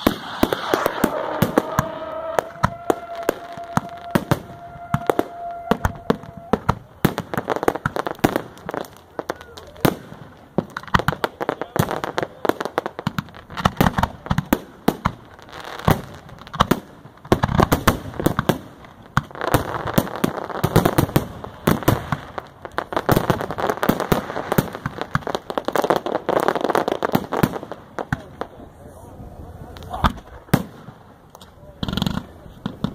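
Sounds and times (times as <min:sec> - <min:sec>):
firework bangs: 0:00.0 - 0:28.7, 0:29.8 - 0:31.2, 0:31.8 - 0:32.9
firework crackling: 0:00.0 - 0:32.9.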